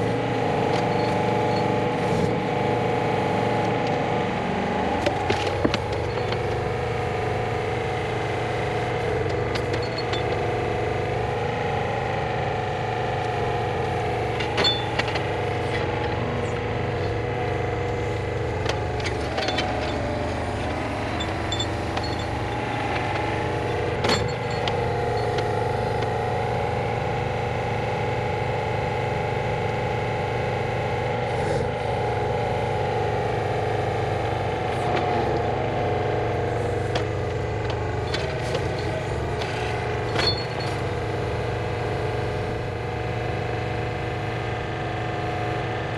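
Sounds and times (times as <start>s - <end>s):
machine engine running: 0.0s - 45.9s.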